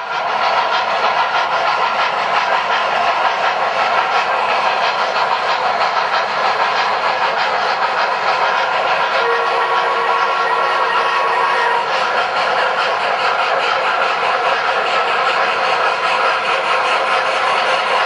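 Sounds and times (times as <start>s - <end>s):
locomotive steam hiss and chuff: 0.0s - 18.0s.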